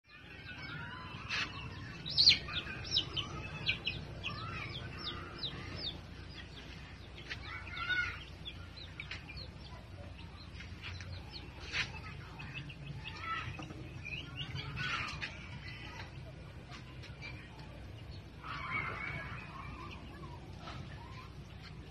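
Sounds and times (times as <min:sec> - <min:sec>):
chickens chirping and peeping: 0:00.1 - 0:21.9
chickens clucking: 0:00.6 - 0:21.9.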